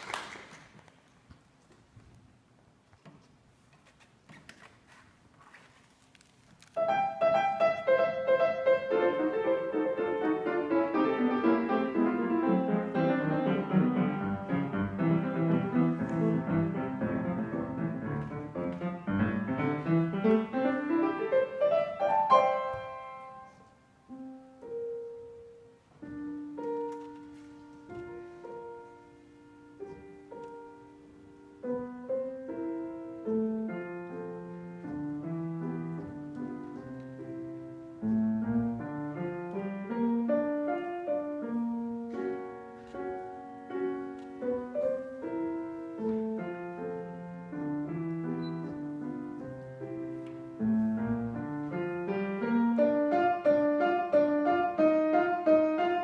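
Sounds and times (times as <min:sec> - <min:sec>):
grand piano playing: 0:06.7 - 0:56.0.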